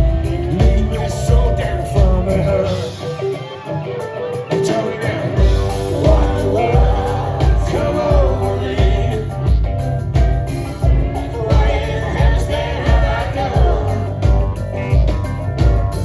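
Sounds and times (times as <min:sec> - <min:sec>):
live rock band with singing: 0:00.0 - 0:16.0.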